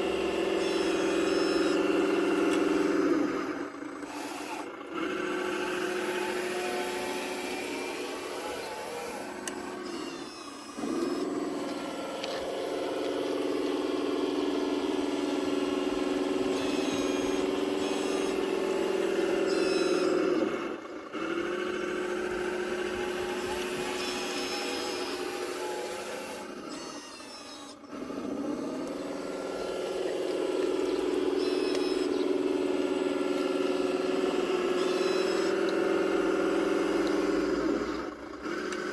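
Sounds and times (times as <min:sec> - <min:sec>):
thin higher whines: 0:00.0 - 0:03.4, 0:05.4 - 0:20.5, 0:22.0 - 0:27.9, 0:28.6 - 0:37.5
motor whine: 0:00.0 - 0:38.9.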